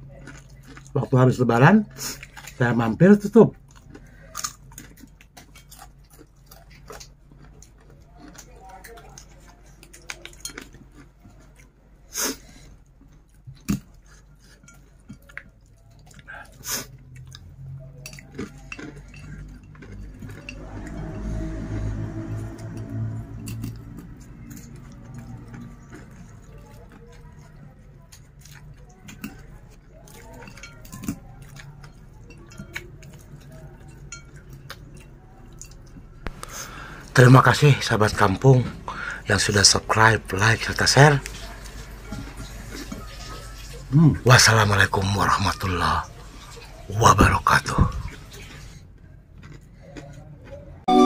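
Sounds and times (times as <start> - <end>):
person chewing: 0.0 - 51.0.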